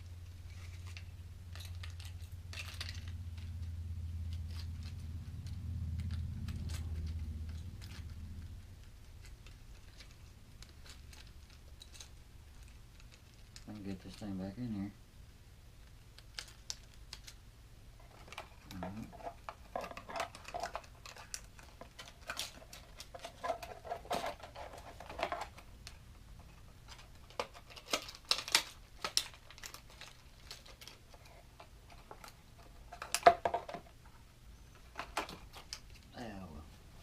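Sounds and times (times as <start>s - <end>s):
plastic clicks and crinkling: 0.5s - 14.7s, 15.8s - 17.4s, 18.0s - 36.1s.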